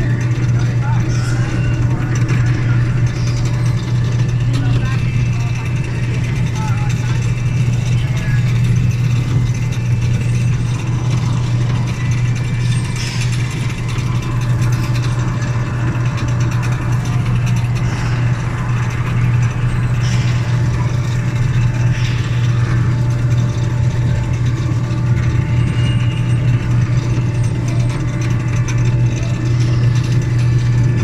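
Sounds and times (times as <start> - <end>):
train running with mechanical rattling: 0.0 - 31.0.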